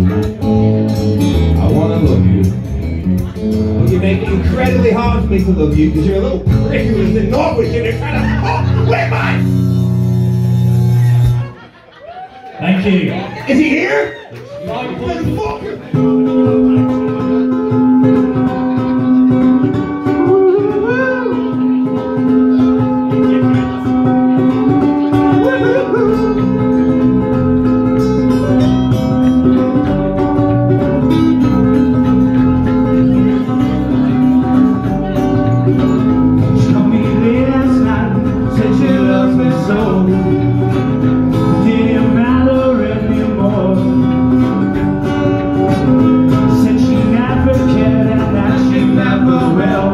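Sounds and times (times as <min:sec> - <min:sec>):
electric bass guitar: 0:00.0 - 0:11.6, 0:14.4 - 0:49.9
held melody line: 0:00.0 - 0:11.6, 0:15.3 - 0:49.9
strummed acoustic guitar: 0:00.0 - 0:11.8, 0:14.7 - 0:49.9.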